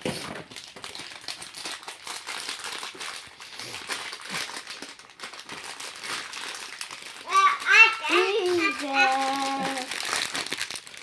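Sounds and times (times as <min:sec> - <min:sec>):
toy wrapper crinkling and tearing: 0:00.0 - 0:11.0.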